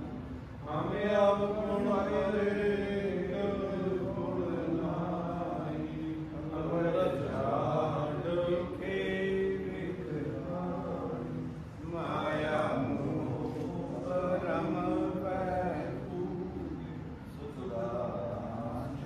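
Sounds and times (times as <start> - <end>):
voices chanting a prayer: 0.0 - 19.0.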